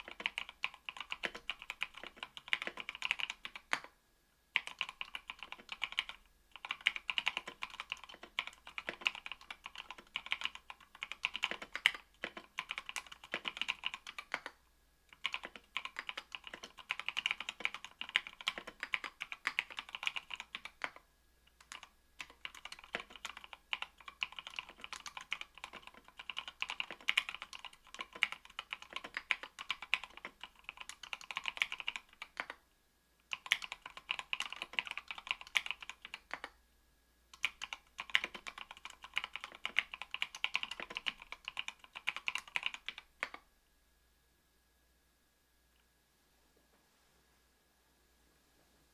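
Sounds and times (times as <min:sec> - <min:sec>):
mechanical keyboard typing: 0:00.0 - 0:03.9, 0:04.6 - 0:32.6, 0:33.3 - 0:36.6, 0:37.3 - 0:43.4.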